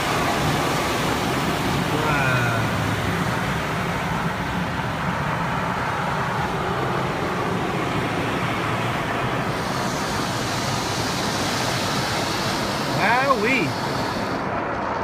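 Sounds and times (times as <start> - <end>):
car wash water spray and machinery: 0.0 - 15.0.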